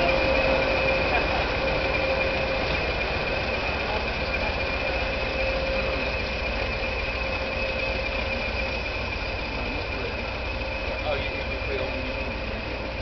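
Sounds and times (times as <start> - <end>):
diesel locomotive engine: 0.0 - 13.0
high whistle: 0.0 - 13.0.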